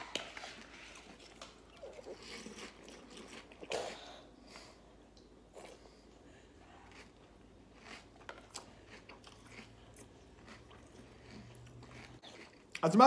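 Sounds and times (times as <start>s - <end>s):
chewing crunchy cereal: 0.0s - 4.1s, 5.5s - 13.0s.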